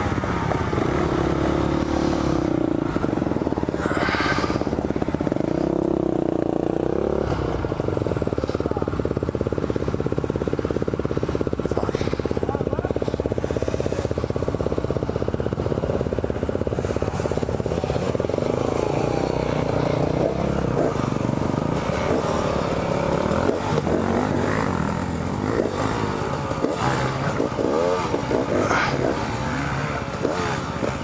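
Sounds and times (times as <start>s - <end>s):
dirt bike engine revving: 0.0s - 31.0s
engine clatter: 0.0s - 31.0s.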